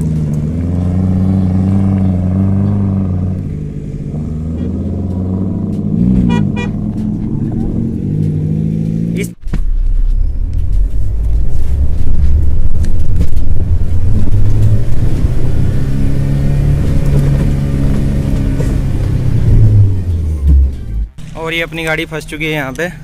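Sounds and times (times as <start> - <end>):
off-road vehicle engine running: 0.0 - 22.4
driving through mud: 0.0 - 22.7.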